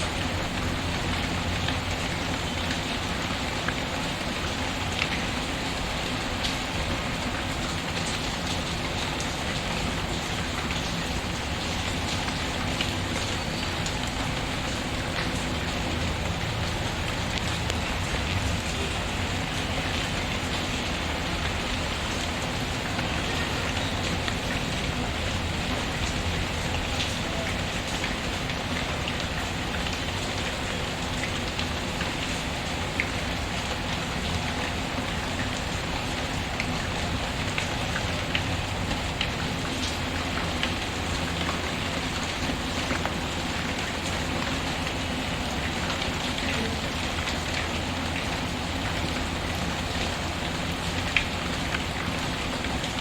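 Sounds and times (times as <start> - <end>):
steady rain pattering: 0.0 - 53.0.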